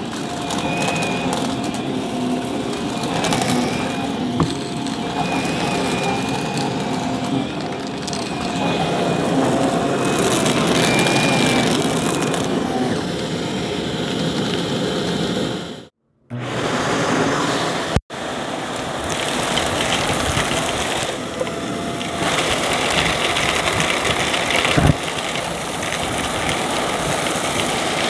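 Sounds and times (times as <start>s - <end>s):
upright vacuum running over carpet: 0.0s - 28.0s.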